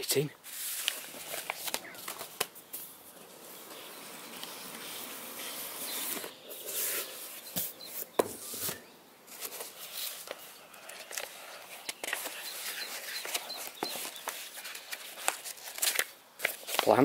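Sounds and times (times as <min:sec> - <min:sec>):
paper rustling: 0:00.4 - 0:17.0
cardboard scraping: 0:00.5 - 0:16.6.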